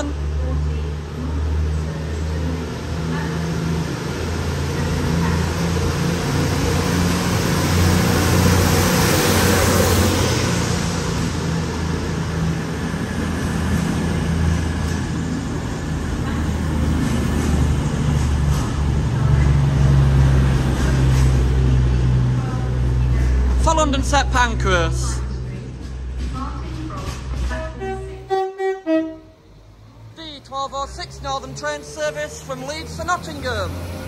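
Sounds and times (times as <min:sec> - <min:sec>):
train diesel engines droning: 0:00.0 - 0:34.0.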